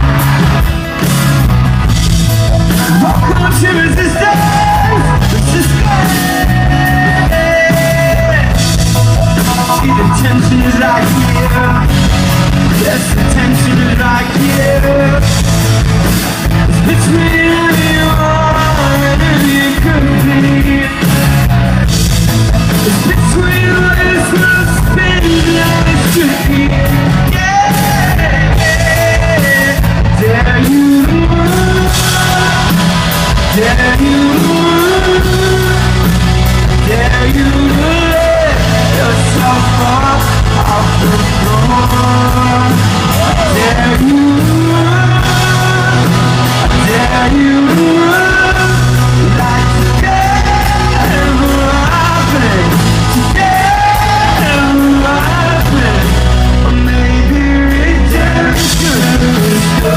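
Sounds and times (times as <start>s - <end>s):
bass: 0.0s - 59.9s
drums: 0.0s - 59.9s
electric guitars: 0.0s - 59.9s
person singing: 2.2s - 21.7s, 22.6s - 59.9s.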